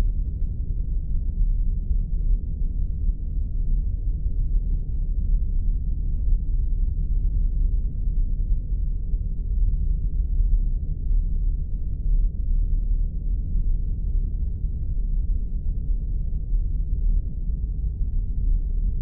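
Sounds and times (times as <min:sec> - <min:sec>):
low rumbling spaceship drone: 0:00.0 - 0:19.0.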